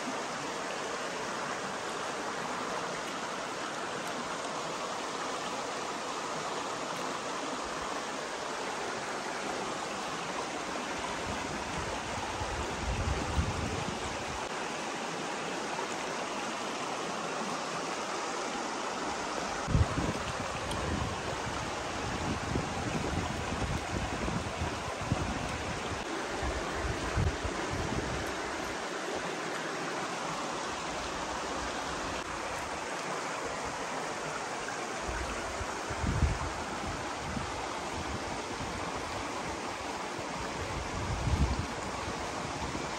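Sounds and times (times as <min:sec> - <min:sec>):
stream water running over rocks: 0:00.0 - 0:42.9.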